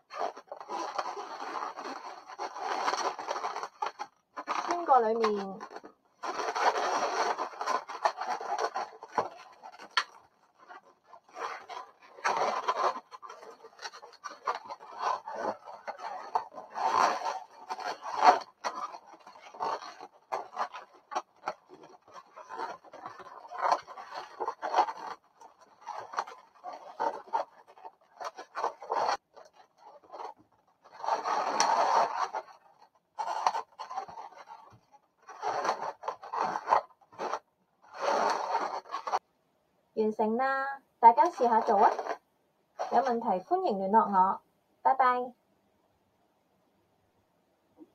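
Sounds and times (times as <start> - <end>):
balloons rubbing and squeaking: 0.0 - 39.2, 41.0 - 42.2, 42.8 - 43.6.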